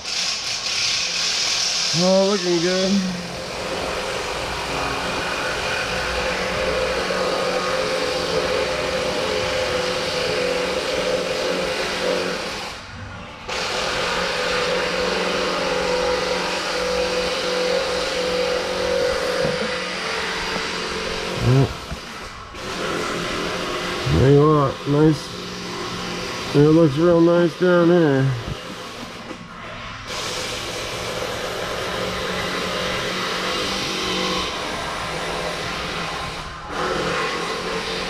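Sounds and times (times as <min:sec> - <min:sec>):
mechanical running hum: 0:00.0 - 0:38.0.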